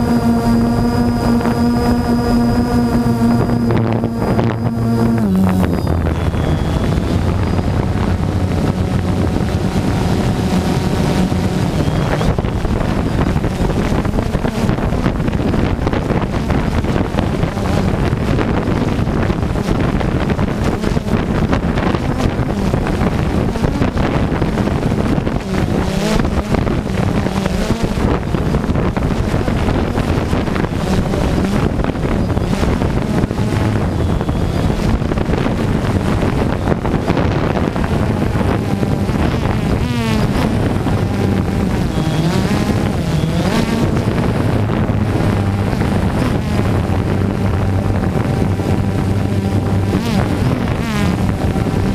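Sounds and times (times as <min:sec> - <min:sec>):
drone propellers buzzing: 0:00.0 - 0:51.9
wind rushing over microphone: 0:00.0 - 0:51.9.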